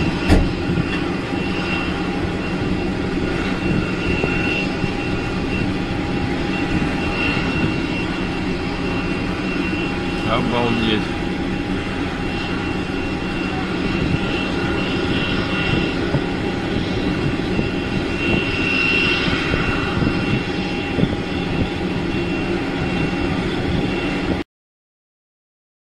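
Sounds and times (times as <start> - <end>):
jet aircraft engines running: 0.0 - 24.4.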